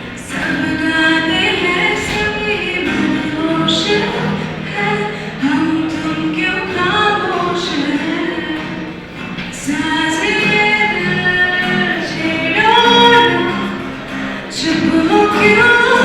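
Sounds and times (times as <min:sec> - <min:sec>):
group of singers singing: 0:00.0 - 0:16.0.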